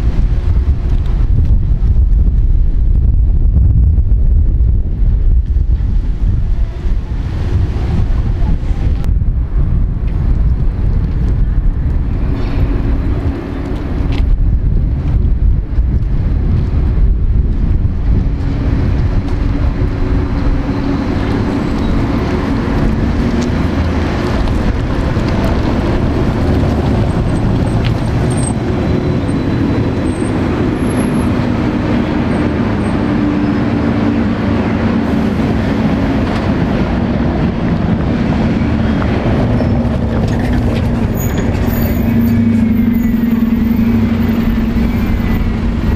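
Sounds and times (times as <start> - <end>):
bus engine running: 0.0 - 45.9
road traffic rumble: 0.0 - 45.9
trolleybus humming by: 0.0 - 45.9.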